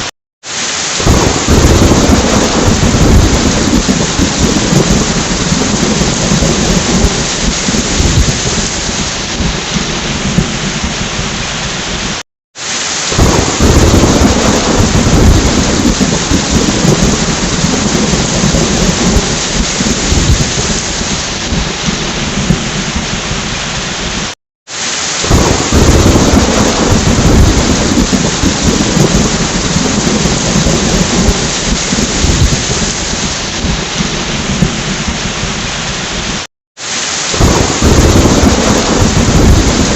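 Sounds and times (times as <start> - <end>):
heavy rain hissing: 0.0 - 39.9
rumbling thunder: 1.0 - 12.2, 13.1 - 24.2, 25.2 - 36.3, 37.3 - 39.9.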